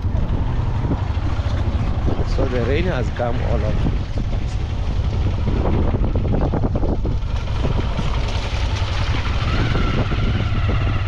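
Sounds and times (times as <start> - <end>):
vehicle rumbling on the move: 0.0 - 11.0.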